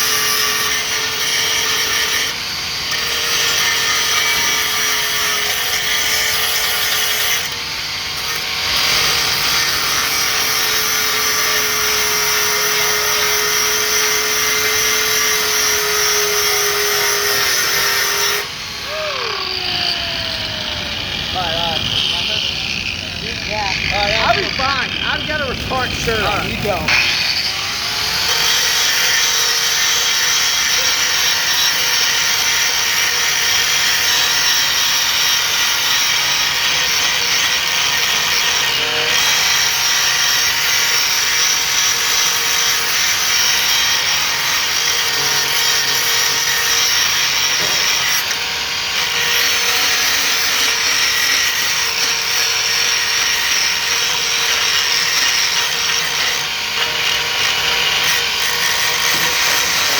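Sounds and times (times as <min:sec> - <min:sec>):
power grinder grinding a blade: 0:00.0 - 0:59.9.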